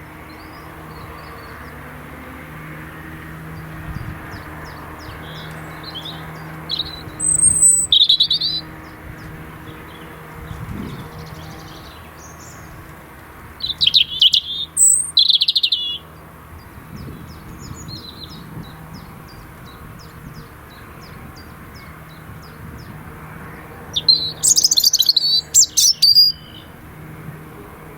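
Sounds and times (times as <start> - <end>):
fast birdsong phrase: 3.4 - 12.8, 13.6 - 26.8.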